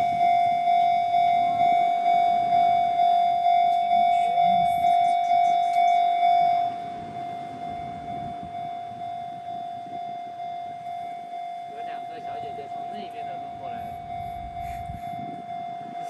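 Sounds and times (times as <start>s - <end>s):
level-crossing warning bell dinging: 0.0s - 16.0s.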